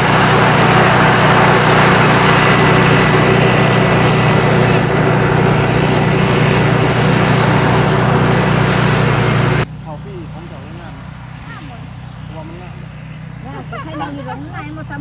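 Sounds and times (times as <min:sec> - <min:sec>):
combine harvester running: 0:00.0 - 0:15.0
high machine whine: 0:00.0 - 0:15.0.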